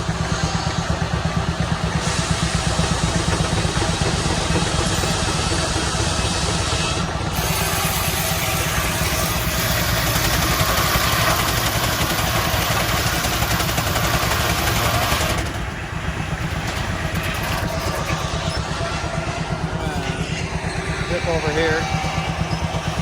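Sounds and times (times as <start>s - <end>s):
engine running low beat: 0.0s - 23.0s
loud high rasping hiss: 0.0s - 23.0s.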